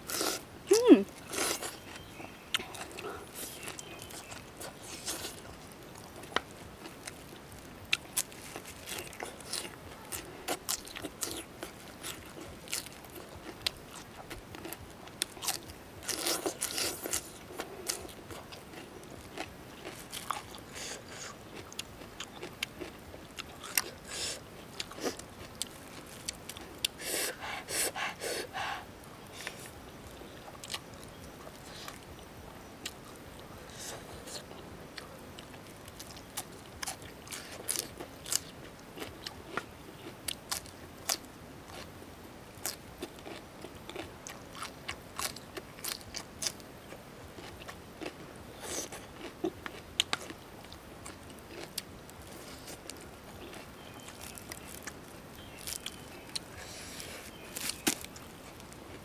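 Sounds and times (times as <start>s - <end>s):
chewing and crunching: 0.0s - 42.0s, 42.6s - 59.0s.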